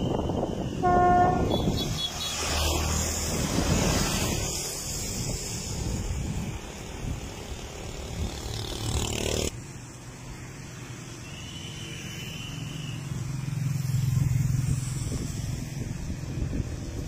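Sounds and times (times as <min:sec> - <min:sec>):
motorbike and car engines passing: 0:00.1 - 0:17.0.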